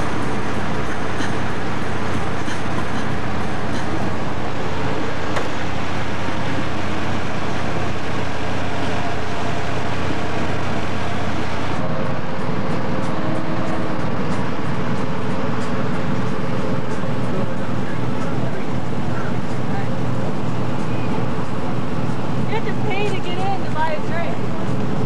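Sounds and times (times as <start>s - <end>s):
car engines idling in traffic: 0.0s - 25.0s.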